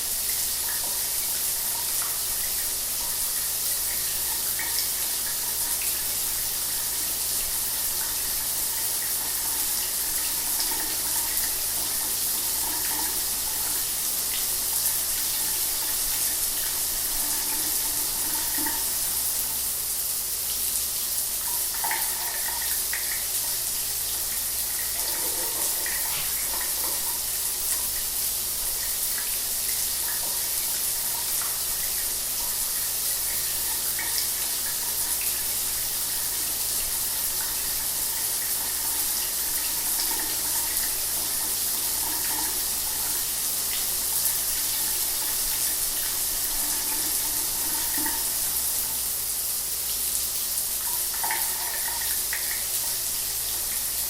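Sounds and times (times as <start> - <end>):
shower spray hissing: 0.0 - 54.0.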